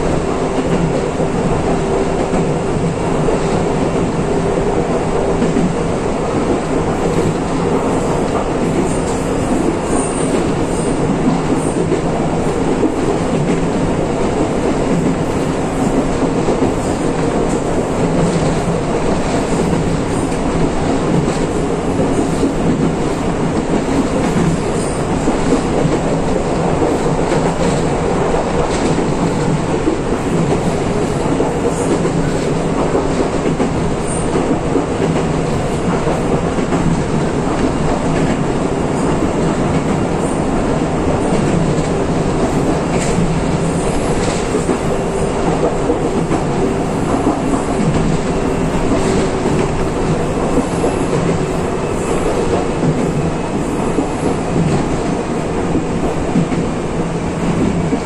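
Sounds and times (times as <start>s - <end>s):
train rumble with motor hum: 0.0s - 58.0s.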